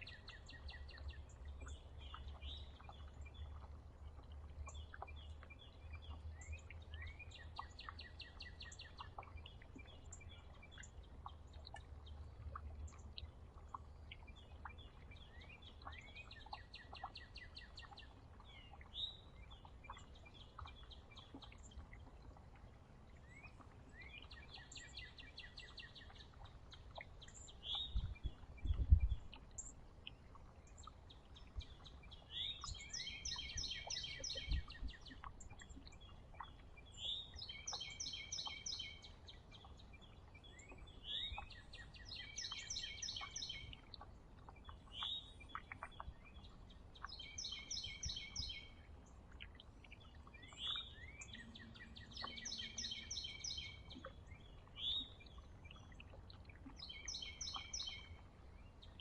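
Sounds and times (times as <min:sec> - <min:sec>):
songbird singing a trill: 0:00.0 - 0:21.9, 0:23.2 - 0:49.1, 0:49.8 - 0:56.1, 0:56.7 - 0:59.0.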